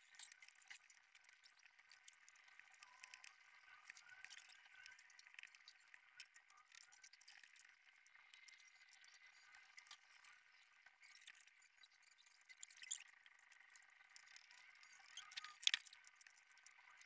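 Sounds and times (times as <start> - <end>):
small ticks: 0.0 - 17.0.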